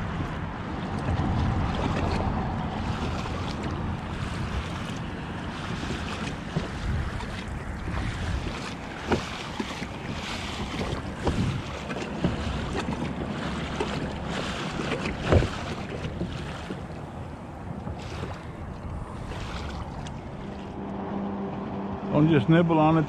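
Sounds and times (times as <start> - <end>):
water lapping at kayak: 0.0 - 22.2
wind buffeting microphone: 0.0 - 22.4.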